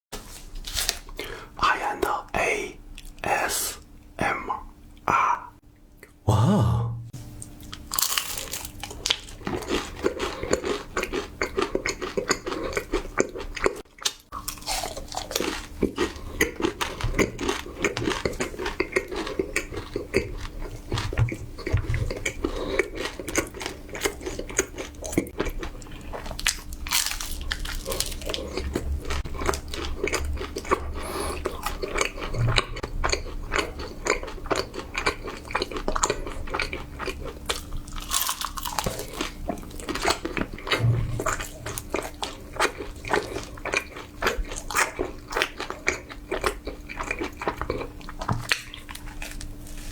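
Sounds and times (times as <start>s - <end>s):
person crunching crisp food: 0.2s - 1.5s, 7.5s - 49.9s.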